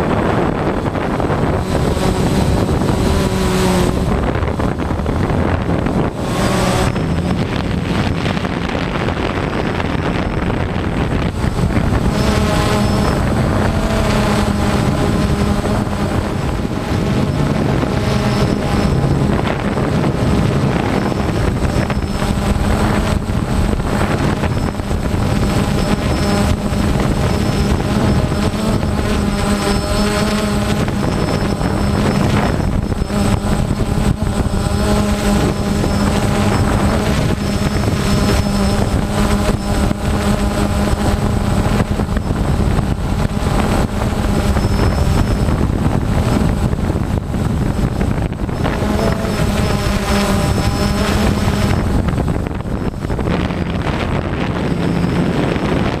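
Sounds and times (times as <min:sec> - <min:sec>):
drone propellers whirring: 0:00.0 - 0:56.0
high-pitched whine: 0:00.0 - 0:56.0.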